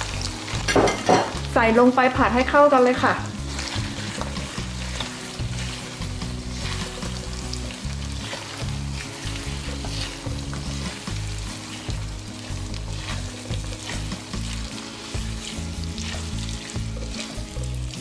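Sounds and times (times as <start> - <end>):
chicken sizzling in a pan: 0.0 - 18.0
stirring strokes in a pan: 0.0 - 18.0.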